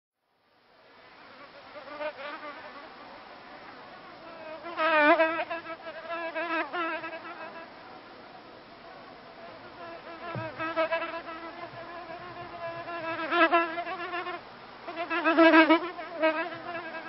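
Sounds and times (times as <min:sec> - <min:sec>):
honeybees buzzing: 0:01.3 - 0:07.7, 0:09.4 - 0:17.0.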